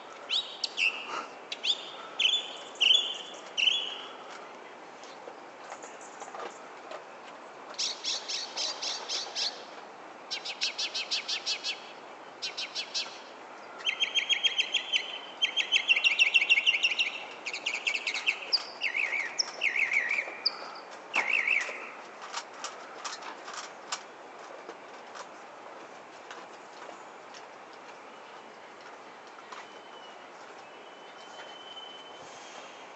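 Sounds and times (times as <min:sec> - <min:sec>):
songbird singing: 0:00.0 - 0:06.7, 0:07.7 - 0:22.1, 0:26.6 - 0:32.2.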